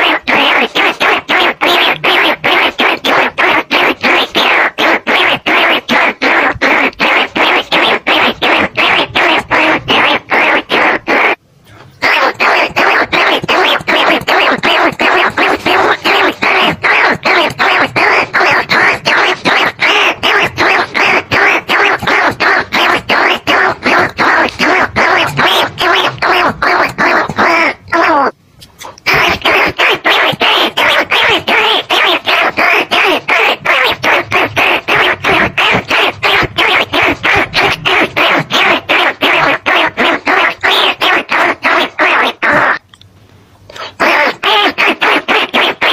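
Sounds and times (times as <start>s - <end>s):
rat squeaks: 0.0s - 42.8s.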